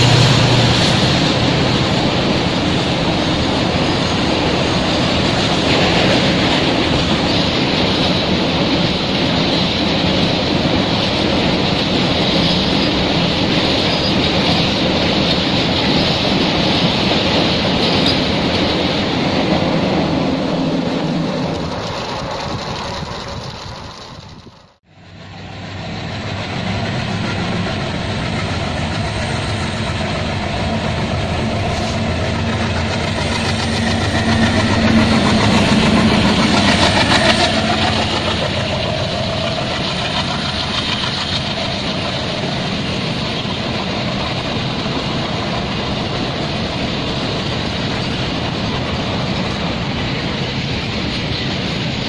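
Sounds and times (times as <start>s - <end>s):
diesel locomotive engine chugging: 0.0s - 52.0s
train wagons rolling on rails: 0.0s - 52.0s.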